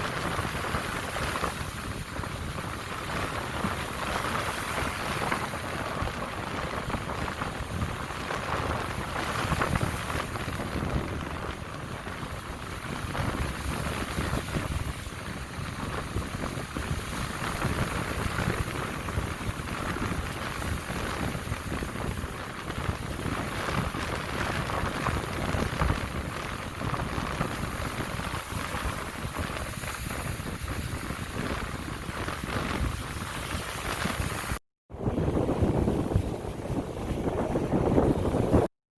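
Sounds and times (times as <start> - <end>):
waves washing ashore: 0.0 - 38.7.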